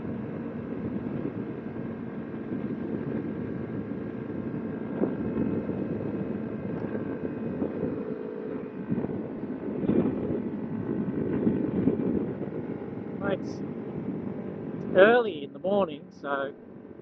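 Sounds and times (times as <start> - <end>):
wind on microphone: 0.0 - 15.0
motorcycle engine running: 0.0 - 17.0.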